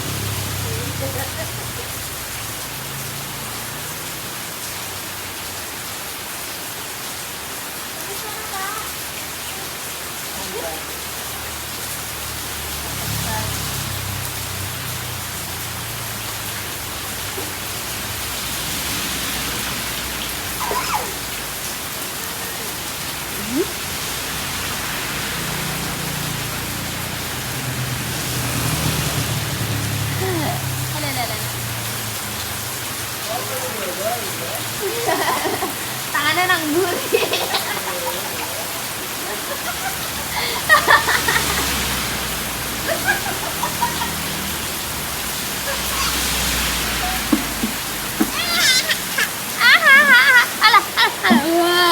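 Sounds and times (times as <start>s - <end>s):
heavy rain downpour: 0.0s - 51.9s.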